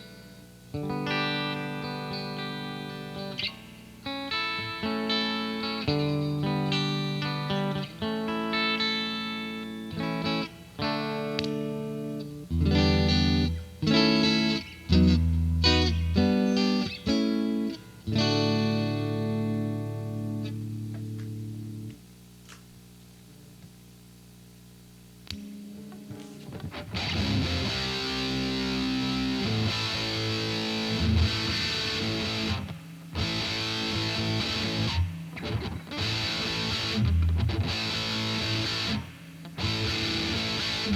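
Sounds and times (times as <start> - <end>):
electric guitar chords: 0.0 - 22.0, 25.2 - 40.9.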